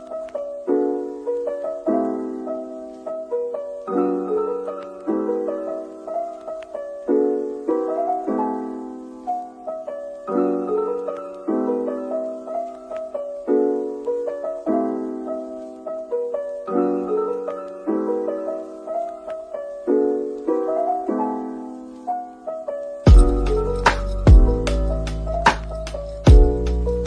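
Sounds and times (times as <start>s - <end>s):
soft piano music: 0.0s - 27.0s.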